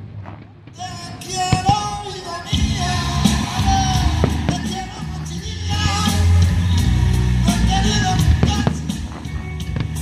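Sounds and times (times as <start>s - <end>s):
fireworks bursting: 0.0s - 10.0s
music with singing and heavy bass: 0.8s - 10.0s.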